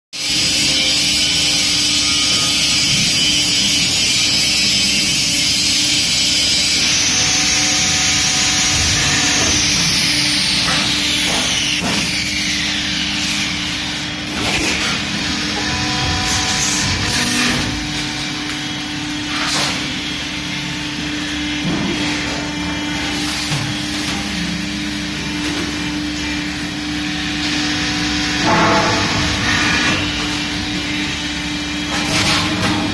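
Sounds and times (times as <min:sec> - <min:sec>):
hydraulic pump humming: 0:04.8 - 0:32.0.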